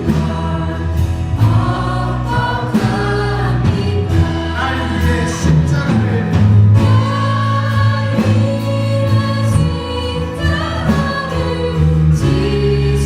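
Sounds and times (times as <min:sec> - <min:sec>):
bass and drums: 0:00.0 - 0:13.0
group singing worship song: 0:00.0 - 0:13.0.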